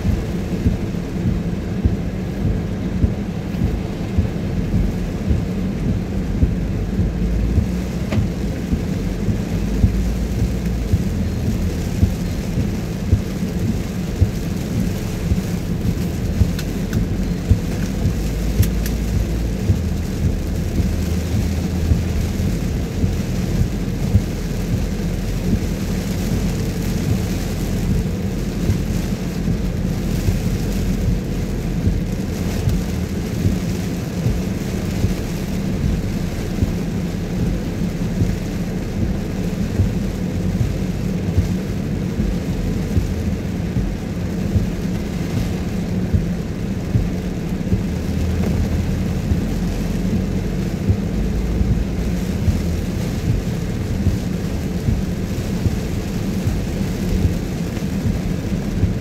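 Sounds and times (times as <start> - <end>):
low engine rumble: 0.0 - 59.0
water rushing wash: 0.0 - 59.0.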